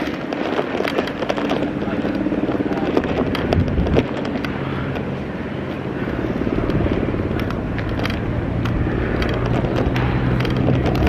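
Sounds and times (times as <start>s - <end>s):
bicycle rolling on pavement: 0.0s - 11.0s
light rattles and clicks: 0.0s - 11.0s.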